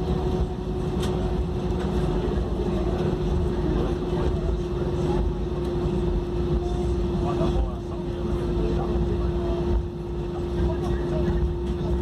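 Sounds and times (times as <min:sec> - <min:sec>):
aircraft cabin rumble and hum: 0:00.0 - 0:12.0.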